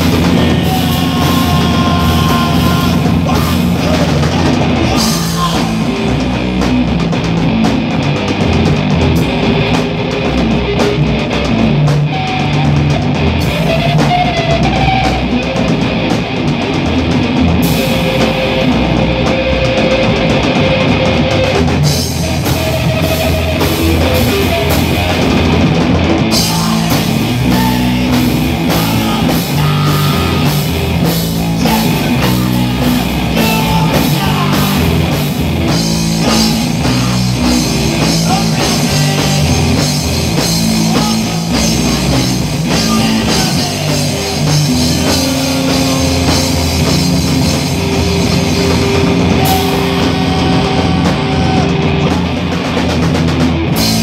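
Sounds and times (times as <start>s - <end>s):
punk rock band playing: 0.0s - 54.0s.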